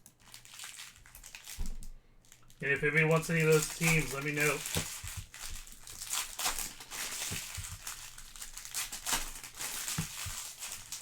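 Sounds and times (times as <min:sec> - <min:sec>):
wrappers crinkling: 0:00.0 - 0:11.0.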